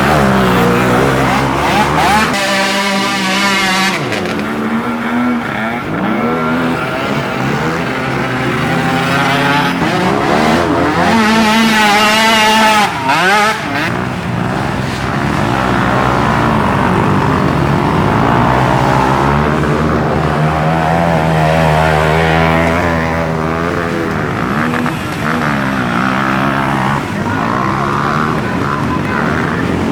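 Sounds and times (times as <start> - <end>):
atv engines revving: 0.0 - 29.9.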